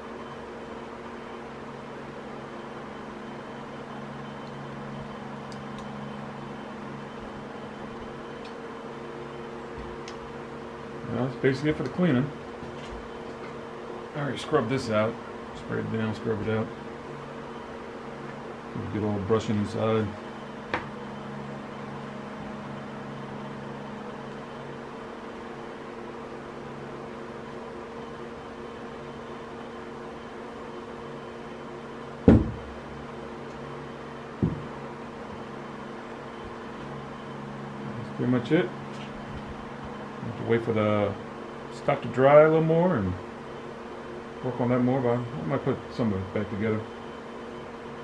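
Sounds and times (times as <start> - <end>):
machine hum: 0.0 - 48.0.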